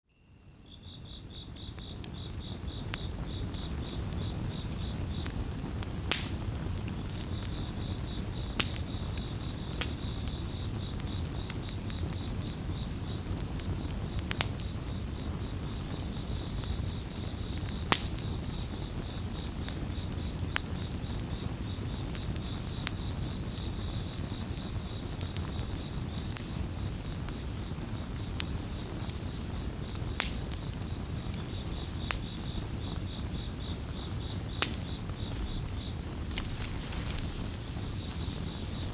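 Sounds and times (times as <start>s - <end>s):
cricket chirping: 0.0s - 38.9s
campfire crackling and popping: 1.3s - 38.9s.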